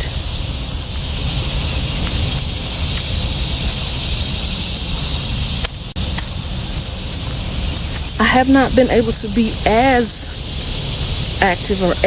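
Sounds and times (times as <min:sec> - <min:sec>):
insects droning: 0:00.0 - 0:12.0
wind rumble on microphone: 0:00.0 - 0:12.0.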